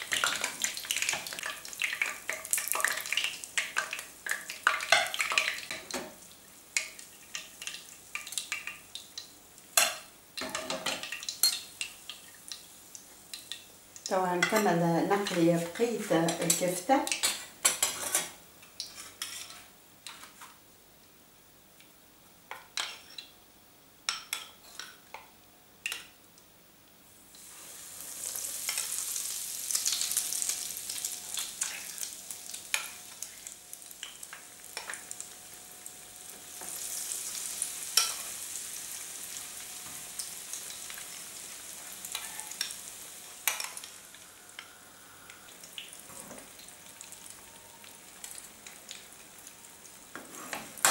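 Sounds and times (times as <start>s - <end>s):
patties sizzling in hot oil: 0.0s - 20.4s, 27.1s - 50.9s.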